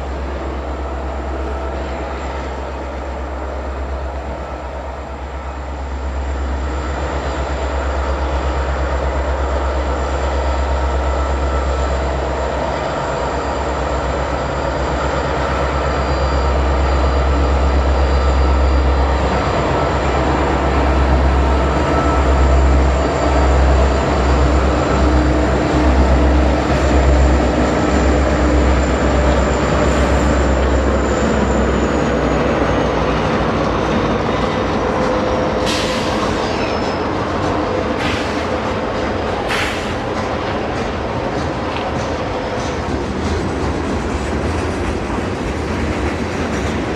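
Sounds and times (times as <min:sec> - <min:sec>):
diesel locomotive rumble: 0:00.0 - 0:46.9.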